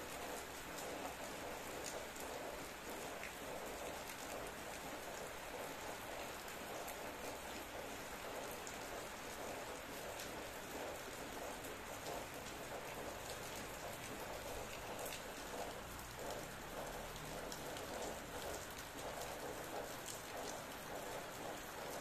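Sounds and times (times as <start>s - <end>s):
steady rain: 0.0s - 22.0s
raindrops ticking: 0.2s - 22.0s.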